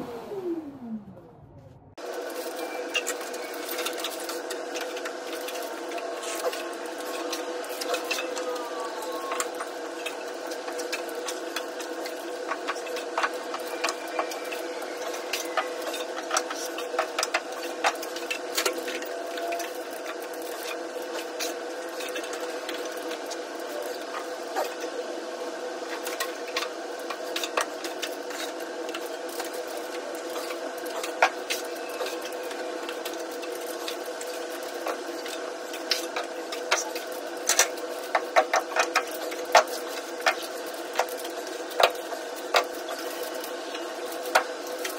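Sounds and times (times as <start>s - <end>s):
steady machine hum: 0.0s - 44.9s.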